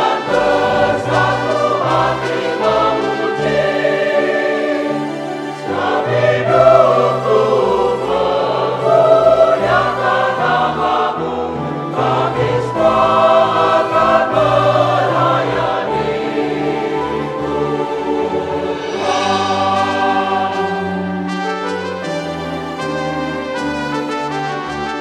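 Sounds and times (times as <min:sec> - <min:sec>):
choir singing a hymn: 0:00.0 - 0:22.2.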